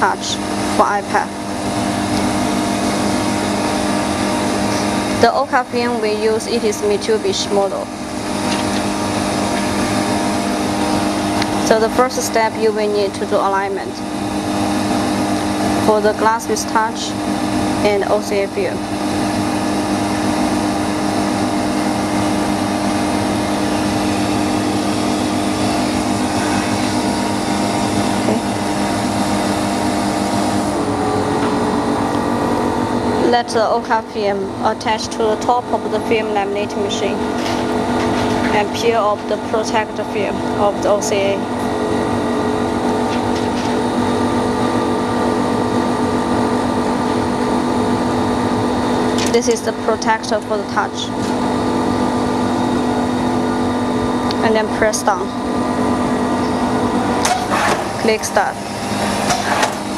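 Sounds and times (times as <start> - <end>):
electric machine hum: 0.0 - 59.9.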